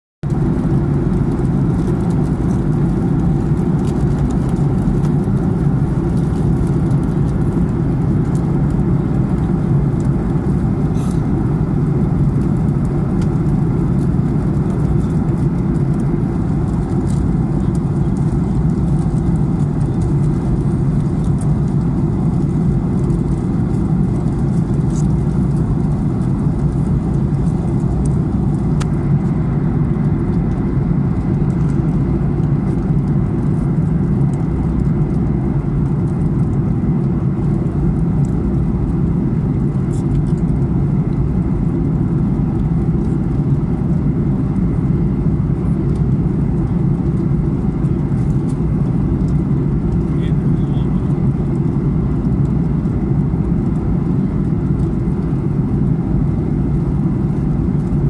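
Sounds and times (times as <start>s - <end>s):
jet airliner cabin noise: 0.3s - 58.0s.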